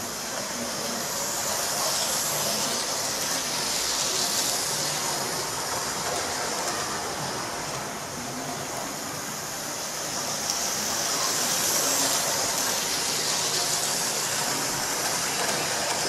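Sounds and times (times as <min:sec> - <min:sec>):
model train motor and wheels: 0:00.0 - 0:16.0.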